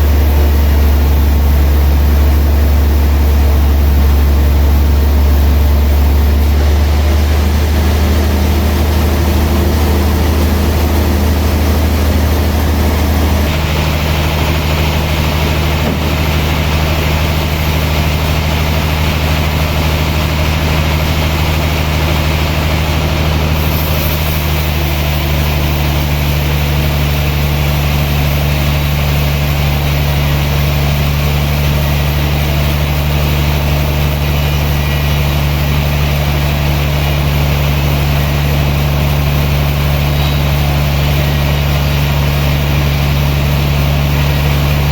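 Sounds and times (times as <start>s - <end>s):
sawmill machinery droning: 0.0s - 44.9s.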